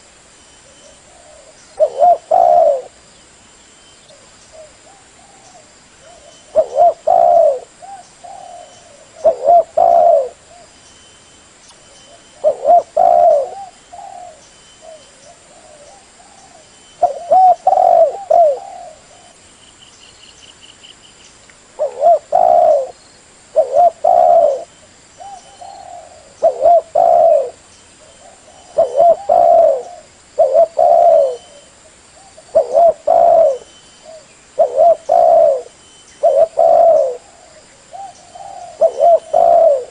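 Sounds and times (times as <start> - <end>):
dove cooing: 0.9 - 3.0, 4.1 - 10.8, 12.1 - 19.4, 21.8 - 39.9.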